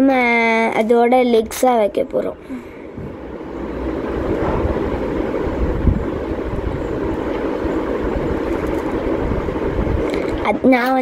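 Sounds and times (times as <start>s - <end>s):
low rumbling noise: 0.0s - 10.8s.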